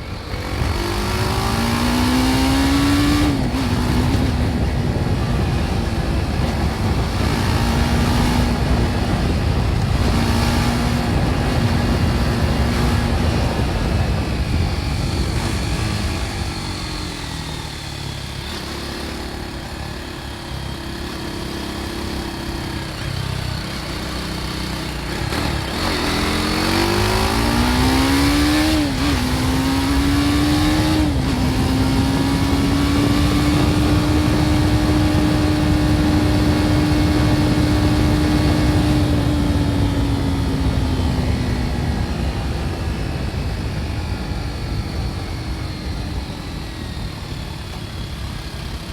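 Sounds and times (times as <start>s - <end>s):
wind rush: 0.0s - 17.5s, 25.1s - 47.2s
motorcycle engine accelerating: 0.0s - 48.9s.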